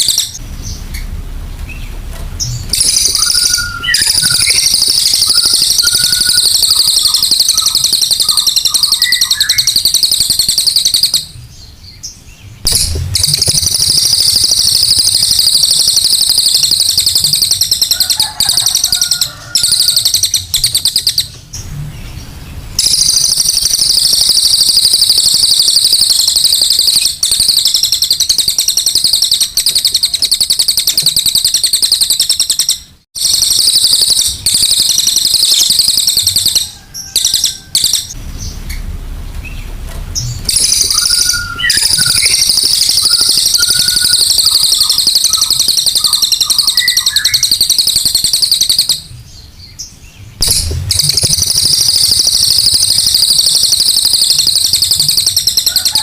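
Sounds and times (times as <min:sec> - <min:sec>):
bird trilling chatter: 0:02.6 - 0:11.4, 0:12.6 - 0:21.3, 0:22.8 - 0:38.6, 0:40.4 - 0:49.1, 0:50.4 - 0:56.0.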